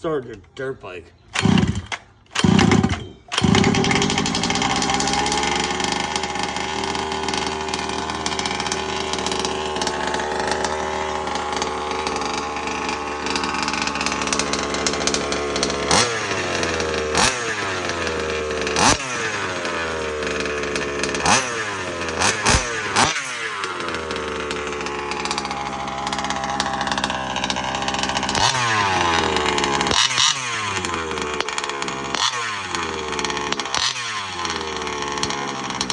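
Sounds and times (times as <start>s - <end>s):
small two-stroke engine revving: 1.3s - 35.9s.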